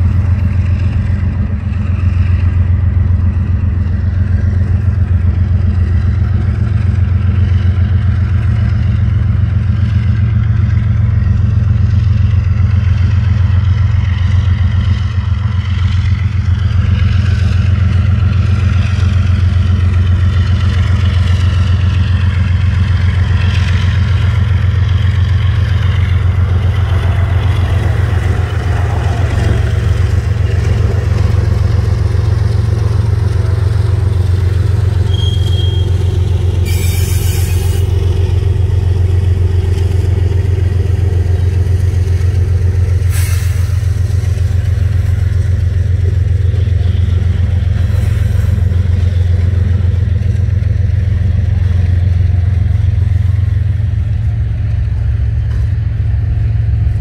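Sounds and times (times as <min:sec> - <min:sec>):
low engine rumble: 0:00.0 - 0:57.0.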